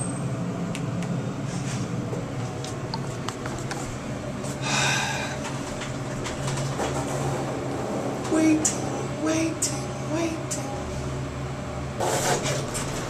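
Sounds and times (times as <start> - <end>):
elevator car humming: 0.0 - 13.0.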